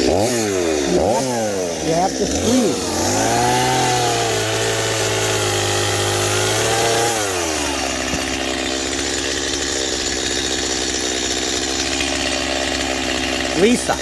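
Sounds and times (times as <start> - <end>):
chainsaw revving and idling: 0.0 - 14.0.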